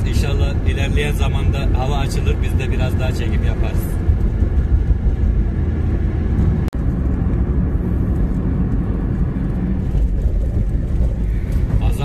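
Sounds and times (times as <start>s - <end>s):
car engine and tyres rumble: 0.0s - 12.0s.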